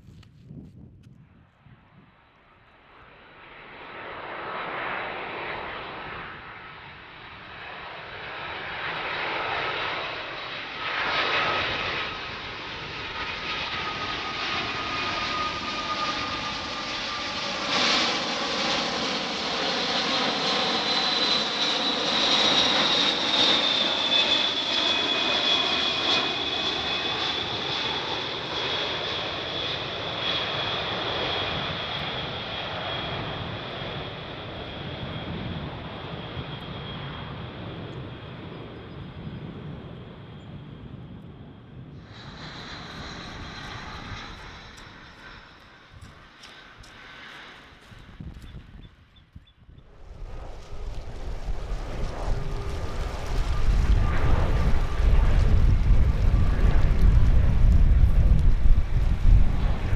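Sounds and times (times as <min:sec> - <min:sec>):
jet engines roaring: 0:02.6 - 0:59.9.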